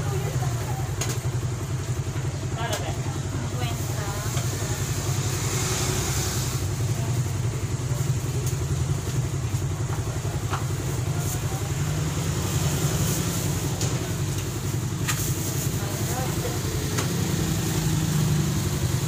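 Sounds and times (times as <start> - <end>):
engine idling: 0.0 - 19.0
motorcycles passing: 0.0 - 19.0
street traffic: 0.0 - 19.0.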